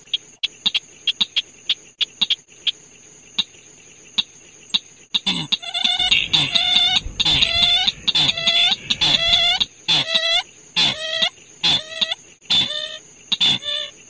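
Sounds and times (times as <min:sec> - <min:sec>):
high insect-like whine: 0:00.0 - 0:14.0.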